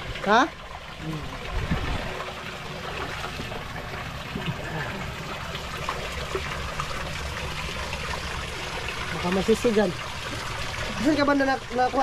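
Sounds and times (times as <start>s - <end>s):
creek water trickling: 0.0s - 12.0s.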